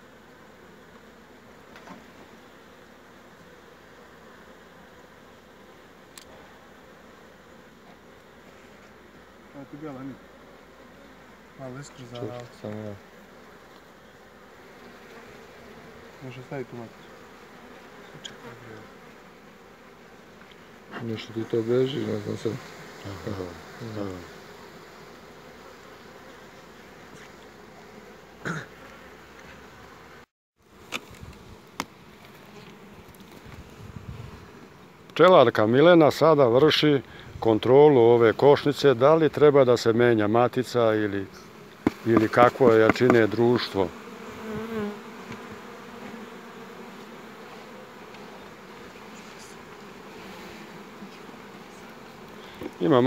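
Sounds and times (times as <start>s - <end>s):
bees humming: 0.0s - 53.0s
honeybees buzzing: 0.0s - 53.0s.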